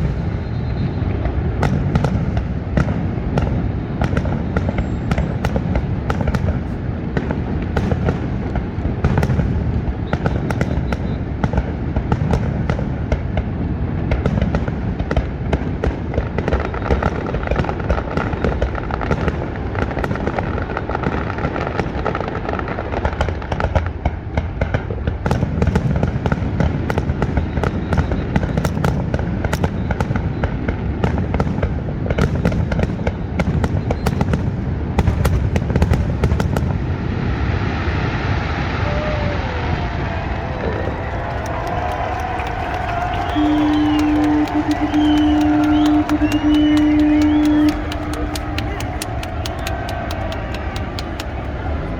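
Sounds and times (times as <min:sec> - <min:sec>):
fireworks bursting and crackling: 0:00.0 - 0:51.9.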